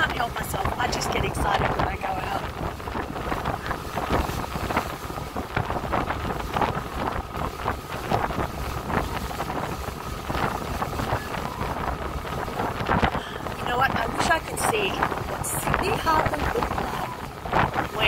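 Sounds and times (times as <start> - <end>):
ferry engine low rumble: 0.0 - 18.0
wind buffeting microphone: 0.0 - 18.0.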